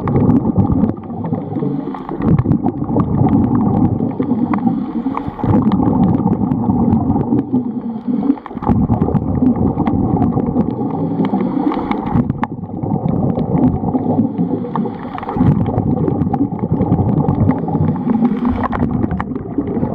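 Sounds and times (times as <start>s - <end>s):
muffled underwater rush: 0.0s - 19.9s
regulator bubbles gurgling: 0.0s - 19.9s.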